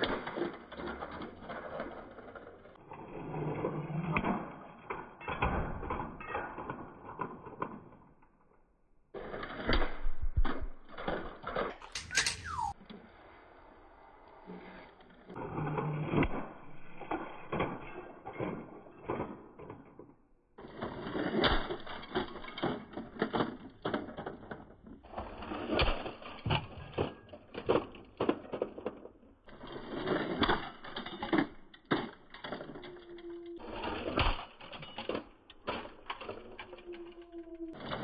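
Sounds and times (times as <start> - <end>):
toy cars crashing and clattering: 0.0 - 3.0, 3.6 - 8.5, 9.2 - 12.8, 15.1 - 38.0.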